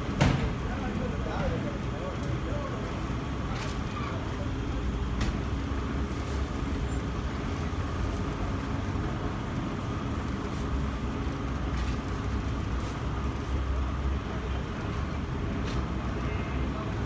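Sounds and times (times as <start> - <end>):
traffic and machinery rumble: 0.0 - 17.0.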